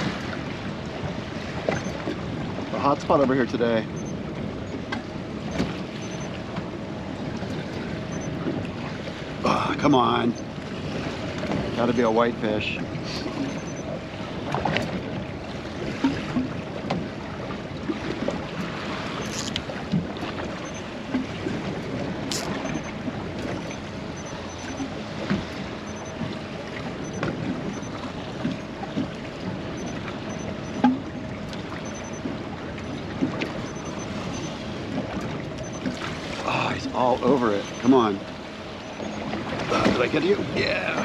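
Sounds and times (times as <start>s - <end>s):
water lapping against boat hull: 0.0s - 41.0s.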